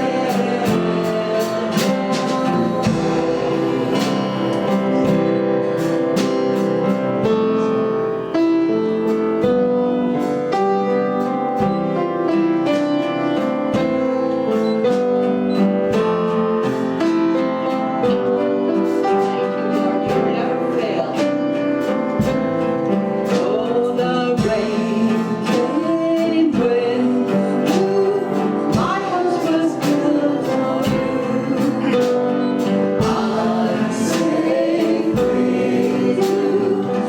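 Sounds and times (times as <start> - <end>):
strummed guitar: 0.0 - 8.5, 9.4 - 37.0
piano chords: 0.0 - 37.0.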